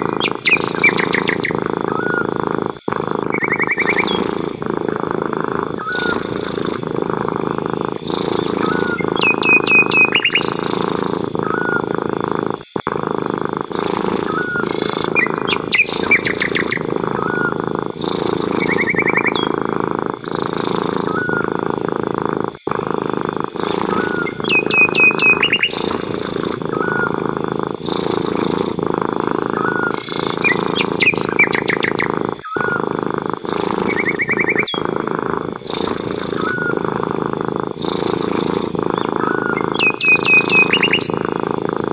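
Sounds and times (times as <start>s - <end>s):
cat purring: 0.0s - 41.9s
small birds chirping: 0.0s - 41.9s.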